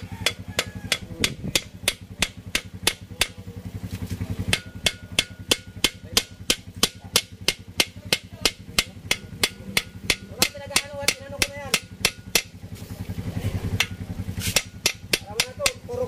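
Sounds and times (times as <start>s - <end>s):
hammer tapping on metal: 0.0s - 3.5s, 4.4s - 12.6s, 13.8s - 16.0s.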